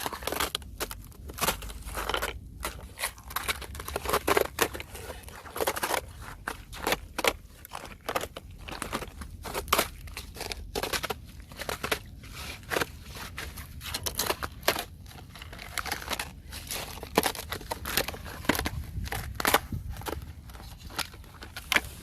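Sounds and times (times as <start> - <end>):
thin ice cracking and crunching: 0.0 - 22.0.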